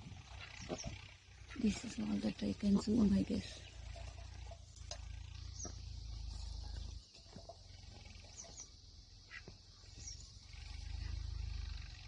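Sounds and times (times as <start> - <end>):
high insect hiss: 0.0 - 12.0
high bird chirps: 0.2 - 11.6.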